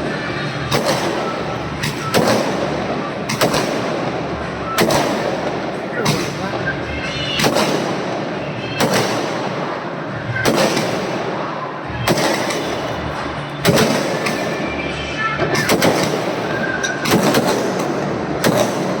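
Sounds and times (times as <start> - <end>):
fireworks banging: 0.0 - 19.0
fireworks crackling: 0.0 - 19.0
fireworks whistling: 0.0 - 19.0.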